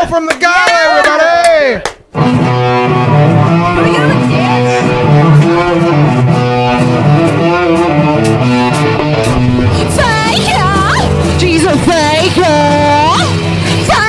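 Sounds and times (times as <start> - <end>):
drum beat: 2.0 - 14.0
bass guitar: 2.1 - 14.0
electric guitar: 2.1 - 14.0.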